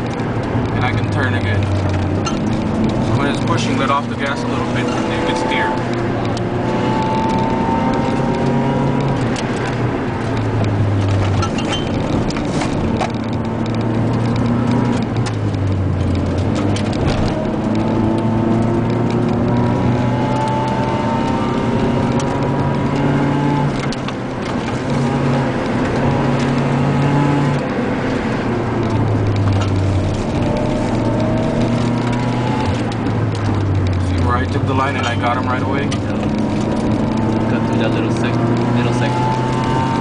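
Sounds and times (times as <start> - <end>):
car engine revving: 0.0 - 40.0
road noise: 0.0 - 40.0.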